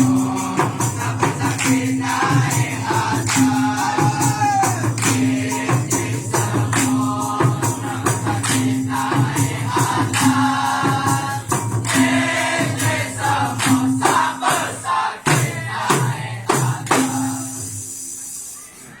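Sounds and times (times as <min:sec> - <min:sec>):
group singing in chorus: 0:00.0 - 0:18.1
hand percussion strikes: 0:00.0 - 0:18.6.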